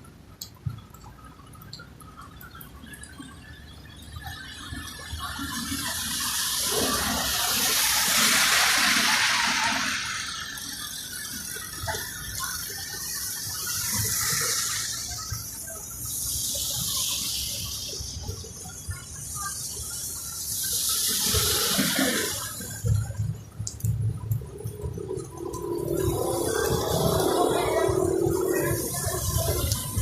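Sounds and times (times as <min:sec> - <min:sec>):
heavy rain: 0:00.3 - 0:30.0
rushing splashing water: 0:02.7 - 0:30.0.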